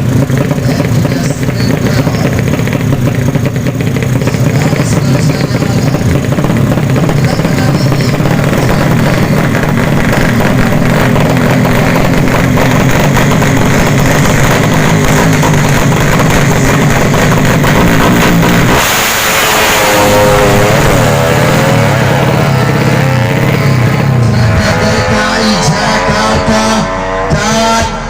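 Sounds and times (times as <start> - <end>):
motorcycle engines at high revs: 0.0 - 28.0.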